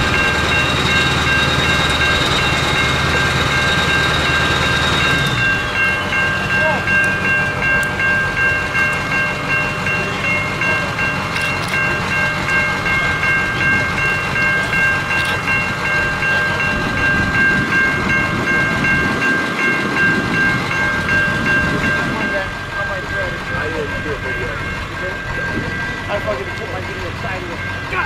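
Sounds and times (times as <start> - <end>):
crossing warning bell ringing: 0.0 - 28.0.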